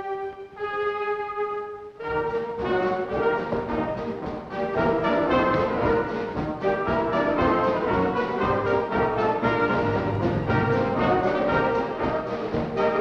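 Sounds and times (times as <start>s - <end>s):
brass-led orchestral dance music: 0.0s - 13.0s.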